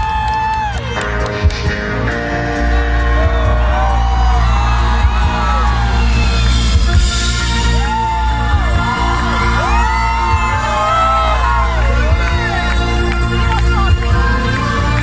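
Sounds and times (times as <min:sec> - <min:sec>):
audience whooping and cheering: 0:00.0 - 0:15.0
live rock band playing: 0:00.0 - 0:15.0.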